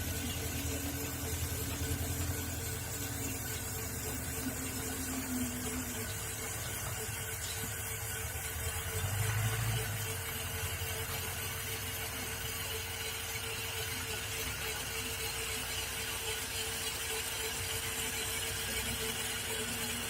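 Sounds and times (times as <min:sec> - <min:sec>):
electric cultivator tilling soil: 0:00.0 - 0:20.0.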